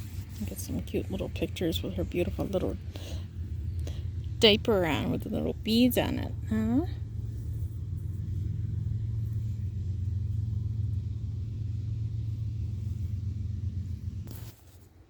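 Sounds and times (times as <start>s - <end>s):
low rumble: 0.0s - 14.5s
constant hum: 0.0s - 15.0s.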